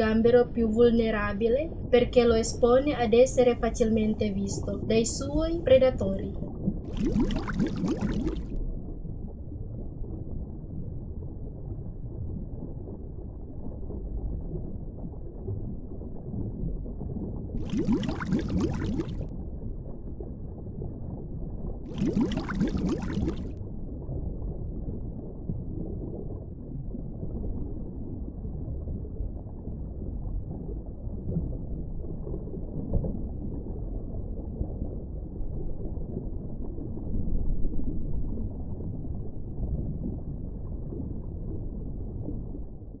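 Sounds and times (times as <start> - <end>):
muffled underwater rumble: 0.0 - 43.0
bubbling: 1.0 - 43.0.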